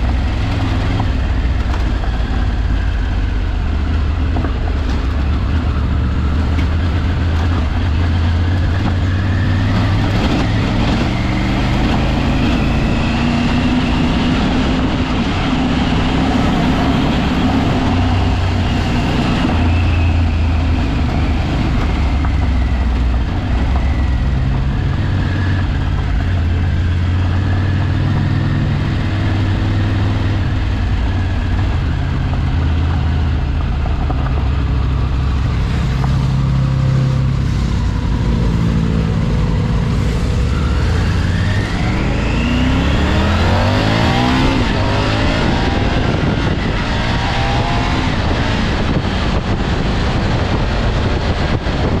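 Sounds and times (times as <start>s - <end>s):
road noise: 0.0s - 52.0s
vehicle engine running: 0.0s - 52.0s.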